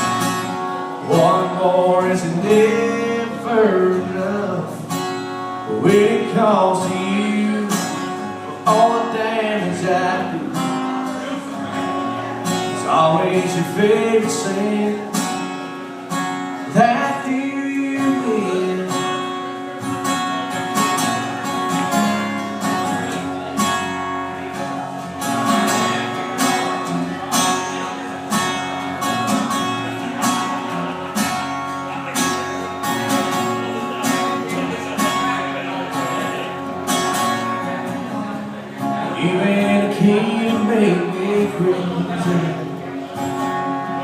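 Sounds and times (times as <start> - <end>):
instrumental country music: 0.0 - 44.0.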